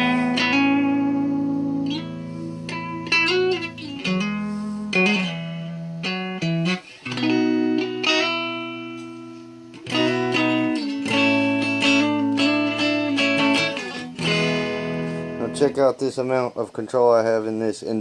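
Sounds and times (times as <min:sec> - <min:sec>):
electric guitar notes and chords: 0:00.0 - 0:15.8.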